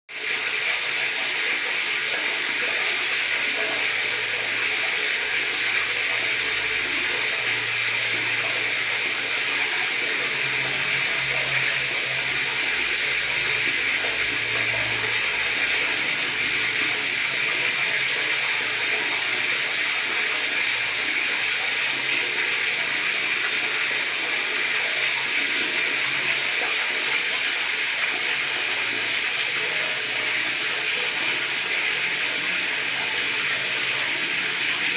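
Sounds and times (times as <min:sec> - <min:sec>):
tap water running into bathtub: 0:00.1 - 0:34.9.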